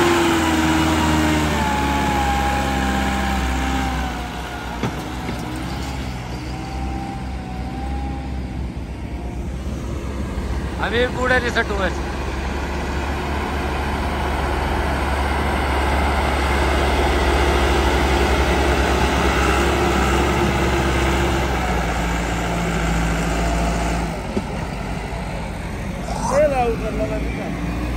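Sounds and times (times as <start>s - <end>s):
tractor diesel engine under load: 0.0s - 27.9s.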